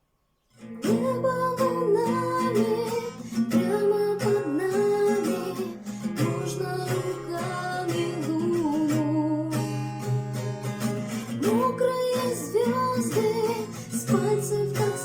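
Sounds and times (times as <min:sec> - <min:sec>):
acoustic guitar strumming: 0:00.5 - 0:15.0
woman singing: 0:00.8 - 0:15.0.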